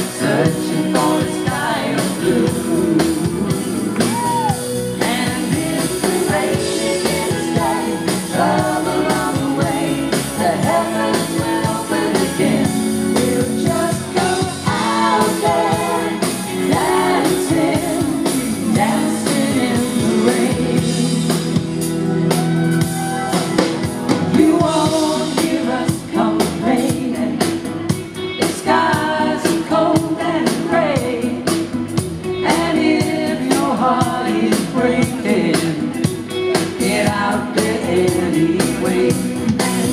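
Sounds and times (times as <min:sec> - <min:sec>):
backing band with steady beat: 0:00.0 - 0:39.9
vocal group singing: 0:00.0 - 0:39.9.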